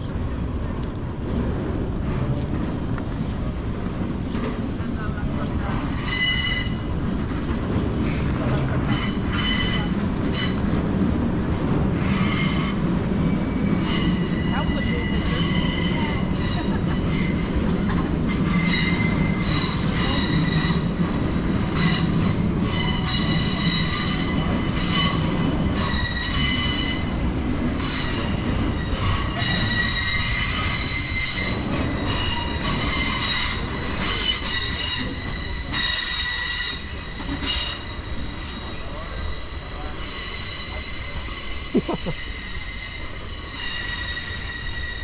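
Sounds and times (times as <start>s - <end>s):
low train rumble: 0.0s - 45.0s
rail wheels squealing: 4.4s - 45.0s.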